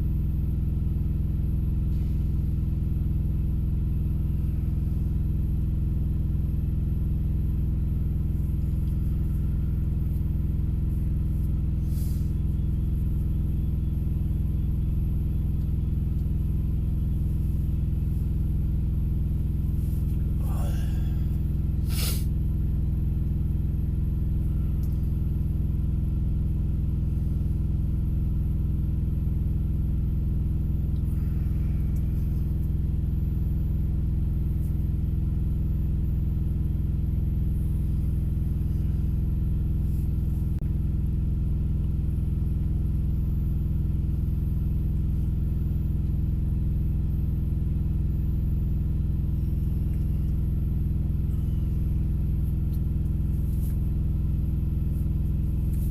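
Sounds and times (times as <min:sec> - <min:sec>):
vehicle engine idling: 0:00.0 - 0:55.9.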